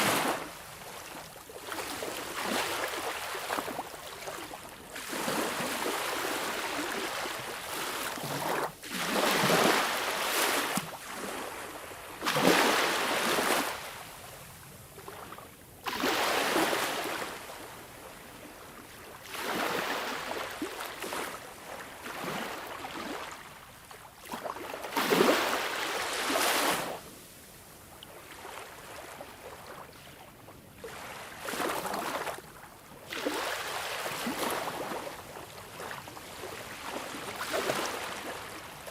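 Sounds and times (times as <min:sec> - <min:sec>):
sea waves washing ashore: 0:00.0 - 0:14.3, 0:15.8 - 0:23.5, 0:24.2 - 0:32.4, 0:33.0 - 0:38.9.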